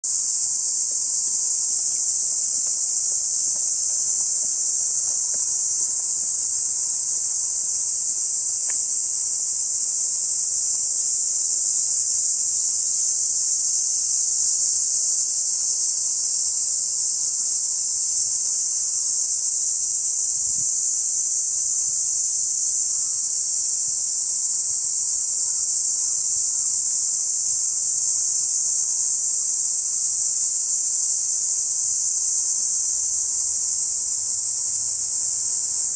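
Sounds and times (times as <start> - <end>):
cicadas chorus: 0.0 - 35.9.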